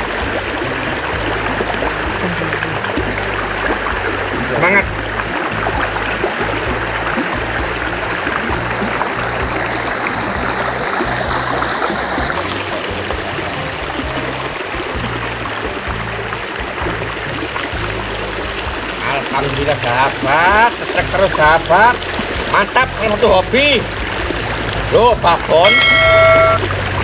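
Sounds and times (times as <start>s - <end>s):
river rushing over stones: 0.0s - 27.0s.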